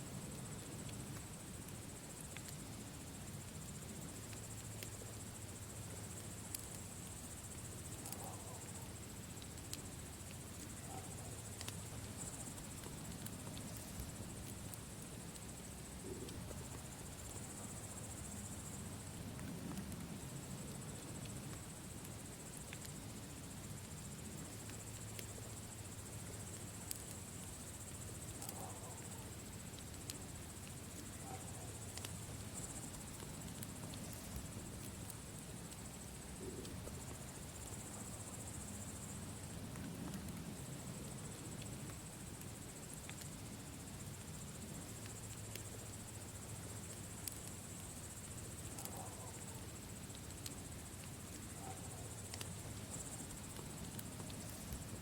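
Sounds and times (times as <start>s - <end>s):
campfire crackling: 0.1s - 55.0s.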